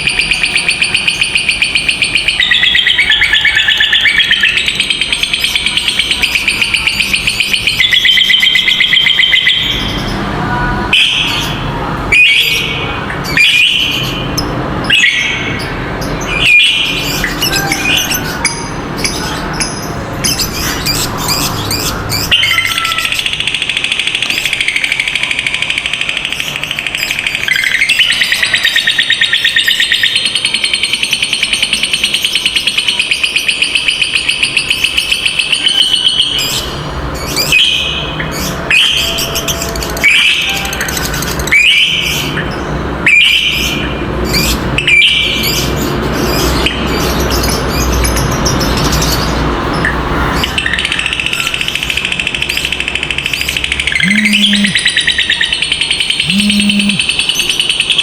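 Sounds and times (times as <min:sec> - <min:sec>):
lovebird chattering trill: 0:00.0 - 0:10.2, 0:11.0 - 0:47.6, 0:50.5 - 0:58.0.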